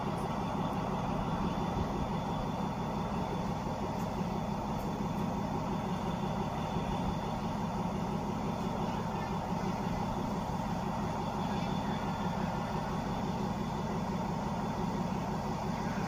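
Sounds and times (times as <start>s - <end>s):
diesel train idling: 0.0s - 16.0s.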